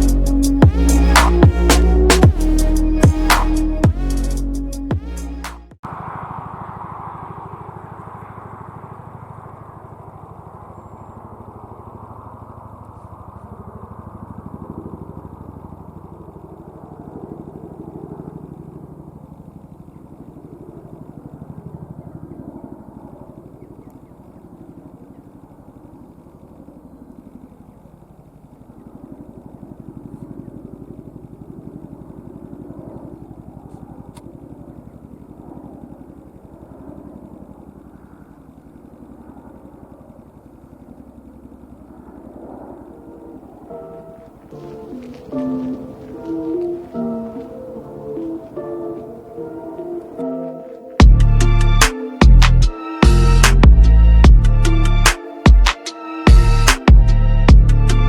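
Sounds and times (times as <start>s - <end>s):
helicopter rotors thudding overhead: 4.8s - 58.0s.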